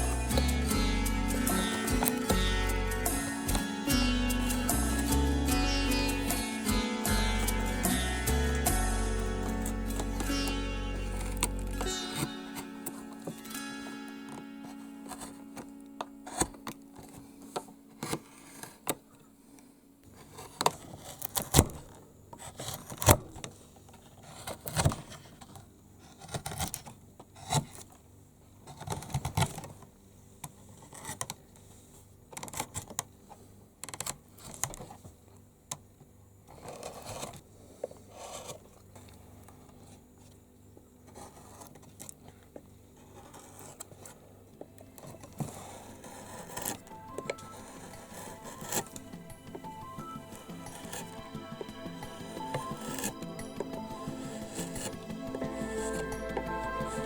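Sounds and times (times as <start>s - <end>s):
chisels cutting and scraping wood: 0.0s - 19.3s, 20.0s - 29.9s, 30.7s - 31.6s, 36.5s - 57.0s.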